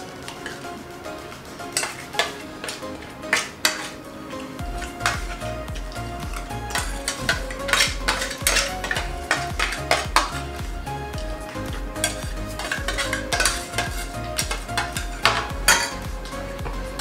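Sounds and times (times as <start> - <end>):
spoons scraping metal plates: 0.0 - 10.6, 11.4 - 17.0
background music with bass: 0.0 - 17.0.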